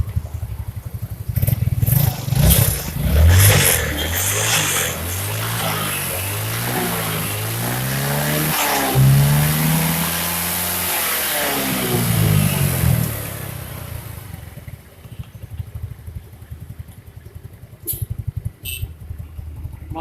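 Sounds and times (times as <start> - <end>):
scooter engine revving and idling: 0.0 - 20.0.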